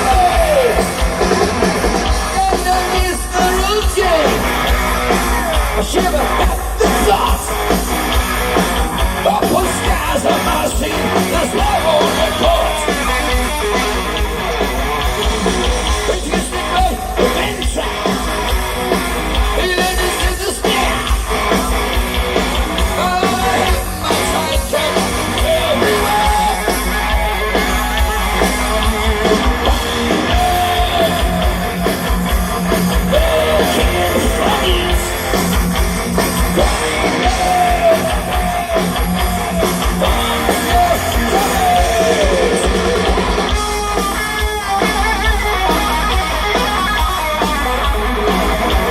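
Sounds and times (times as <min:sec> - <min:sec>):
bending lead guitar notes: 0:00.0 - 0:48.9
heavy metal band playing live: 0:00.0 - 0:48.9.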